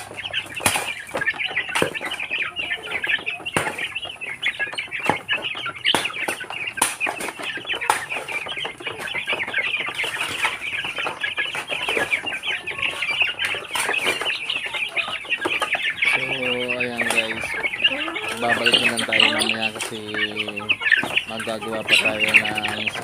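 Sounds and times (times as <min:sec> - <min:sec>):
chicks cheeping: 0:00.0 - 0:23.0.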